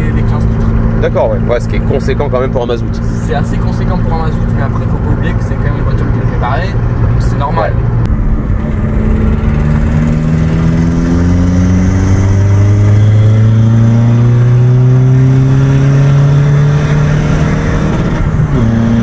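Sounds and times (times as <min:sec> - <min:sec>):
diesel engine accelerating: 0:00.0 - 0:19.0.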